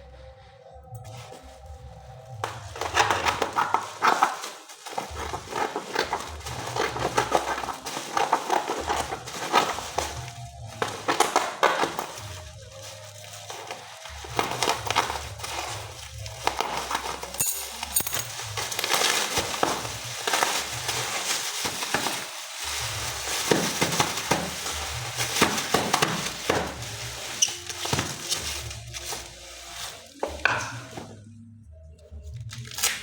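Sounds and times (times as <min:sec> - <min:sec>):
plastic packaging crinkling: 0:02.2 - 0:31.2, 0:32.3 - 0:33.0.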